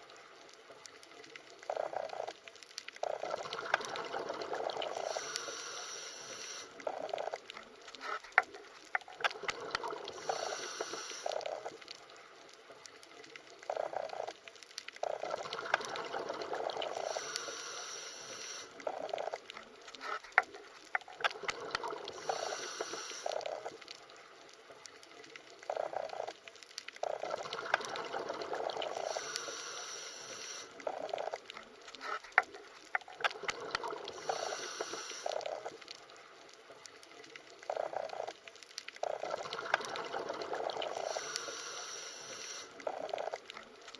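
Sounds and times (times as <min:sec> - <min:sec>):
sharp underwater clicks: 0:00.0 - 0:43.9
underwater water sounds: 0:00.0 - 0:43.9.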